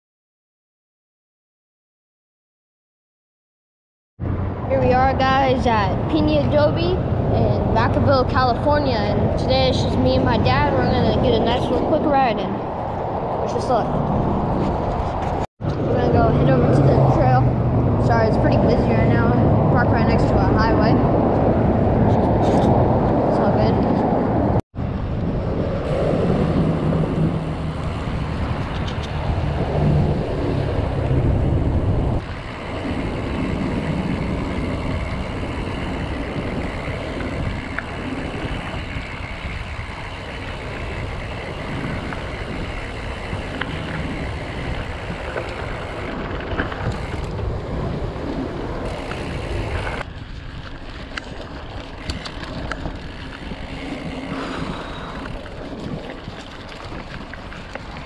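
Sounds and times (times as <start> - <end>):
wind noise on microphone: 4.2 - 58.0
bike tyres rolling: 7.9 - 58.0.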